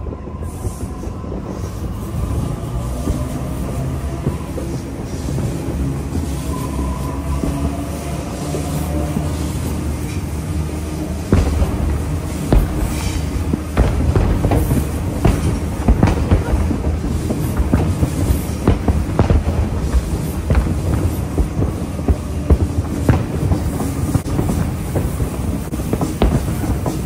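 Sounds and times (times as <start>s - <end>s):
train rumbling: 0.0s - 27.0s
wheels clacking on rails: 0.0s - 27.0s.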